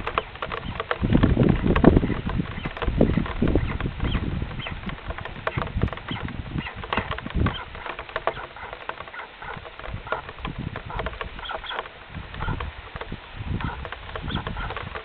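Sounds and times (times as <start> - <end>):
chicks squeaking: 0.0 - 12.7, 13.6 - 14.8
knocks and rustles in nest: 0.0 - 15.0
low thumps: 0.0 - 15.0.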